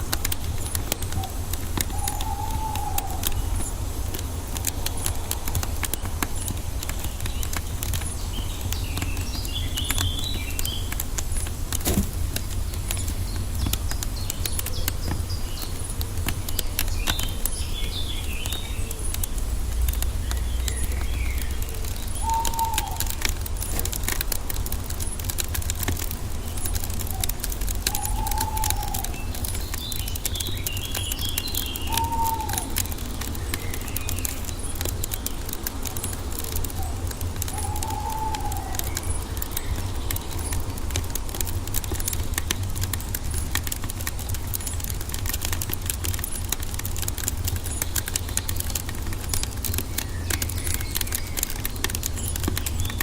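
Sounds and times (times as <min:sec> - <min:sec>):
birds chirping and calling: 0:00.0 - 0:53.0
wood fire crackling: 0:00.0 - 0:53.0.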